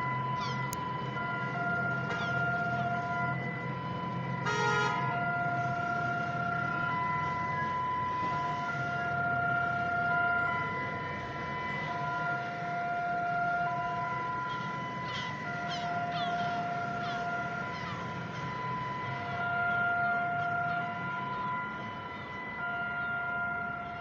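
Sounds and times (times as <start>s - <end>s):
harsh siren blast: 0.0s - 24.0s
warning sirens steady tones: 0.0s - 24.0s.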